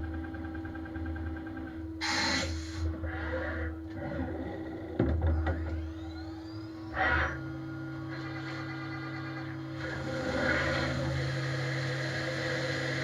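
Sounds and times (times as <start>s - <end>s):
machine hum: 0.0s - 13.0s
rising machine whine: 0.0s - 13.0s.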